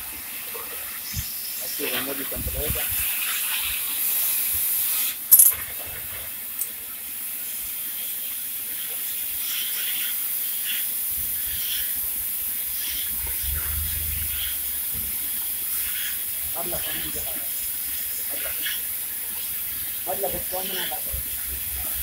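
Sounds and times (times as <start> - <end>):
cutting torch hissing: 0.0 - 22.0.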